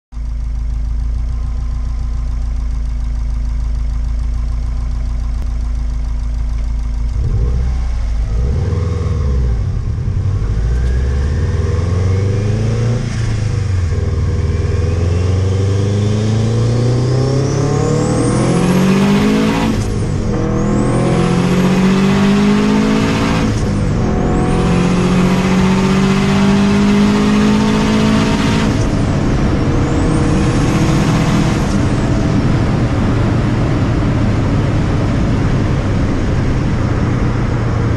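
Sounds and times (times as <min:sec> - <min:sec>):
car engine accelerating: 0:00.2 - 0:37.9.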